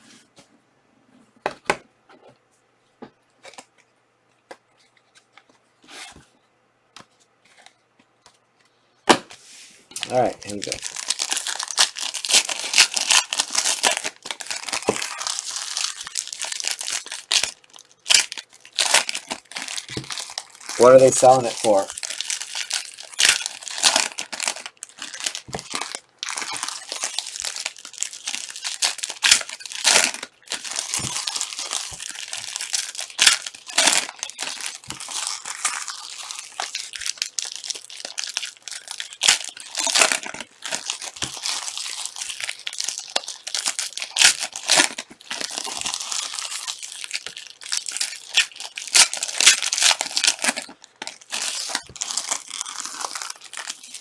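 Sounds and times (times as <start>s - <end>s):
plastic wrappers tearing and crinkling: 9.9s - 54.0s.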